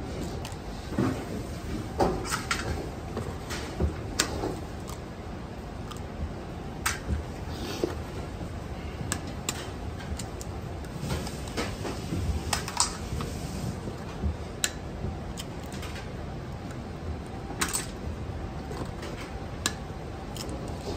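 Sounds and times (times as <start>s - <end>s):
steady background noise: 0.0s - 20.9s.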